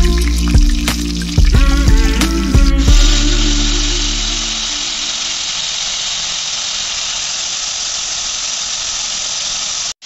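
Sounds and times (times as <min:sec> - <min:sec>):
chicken frying in a wok: 0:00.0 - 0:10.0.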